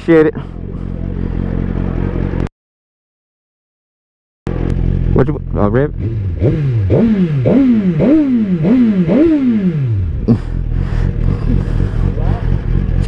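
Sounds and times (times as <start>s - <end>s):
motorcycle engine idling: 0.0s - 2.5s, 4.5s - 13.0s
motorcycle engine revving: 0.0s - 2.5s, 4.5s - 13.0s.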